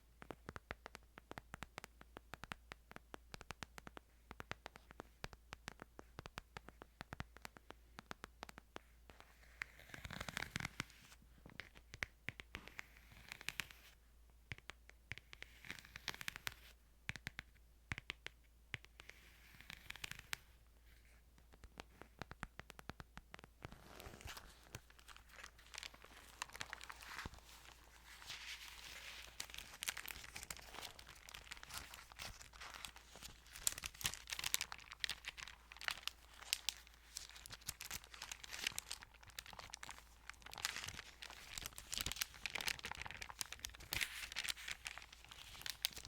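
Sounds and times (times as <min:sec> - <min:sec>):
sharp taps and clicks on a book: 0:00.0 - 0:46.0.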